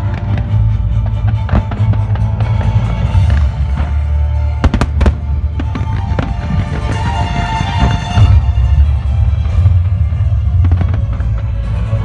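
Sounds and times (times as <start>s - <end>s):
fireworks bursting and crackling: 0.0s - 12.0s.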